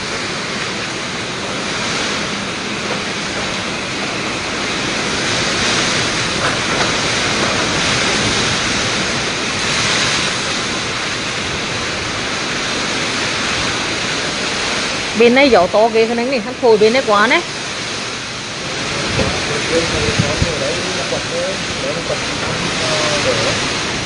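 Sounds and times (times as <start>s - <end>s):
driving rain: 0.0s - 24.0s
strong wind roaring: 0.0s - 24.0s.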